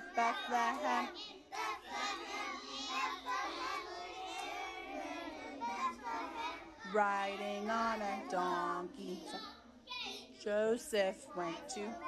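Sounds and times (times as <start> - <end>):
young children singing: 0.0 - 10.2, 10.8 - 12.0.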